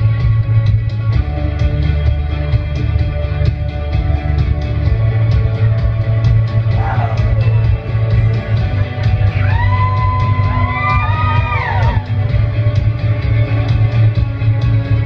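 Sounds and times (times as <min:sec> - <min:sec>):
loud rock music: 0:00.0 - 0:15.0.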